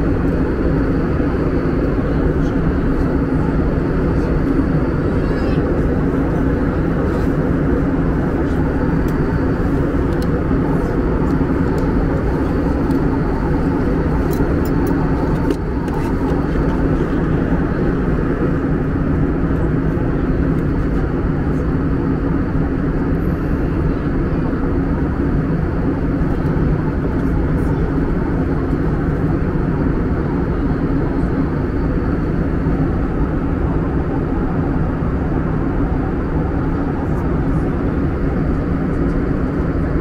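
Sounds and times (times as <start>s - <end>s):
airflow over fuselage: 0.0s - 40.0s
jet engine drone in cabin: 0.0s - 40.0s.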